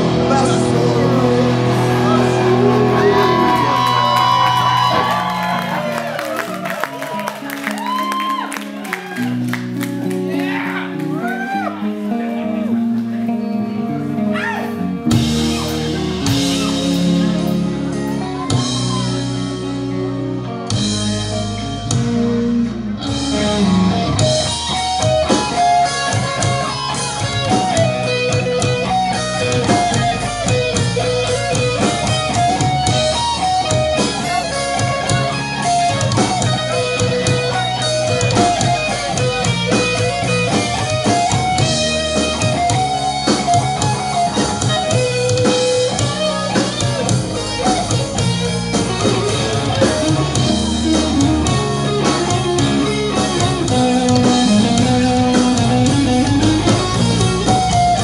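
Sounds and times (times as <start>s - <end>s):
drum kit drumming: 0.0s - 11.8s, 14.4s - 20.0s, 20.6s - 58.0s
rock band music: 0.0s - 58.0s.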